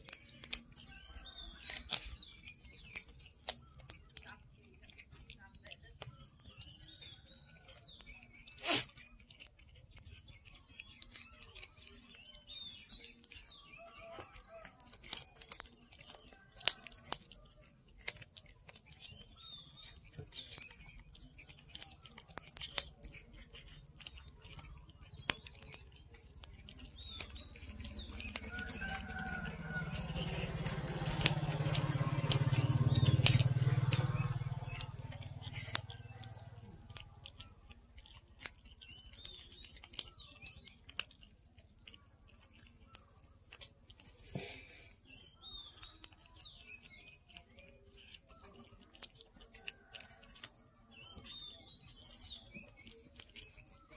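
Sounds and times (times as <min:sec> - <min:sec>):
bone cracking: 0:00.0 - 0:44.2, 0:45.1 - 0:53.9
birds chirping: 0:00.0 - 0:53.9
cats chewing bones: 0:00.0 - 0:53.9.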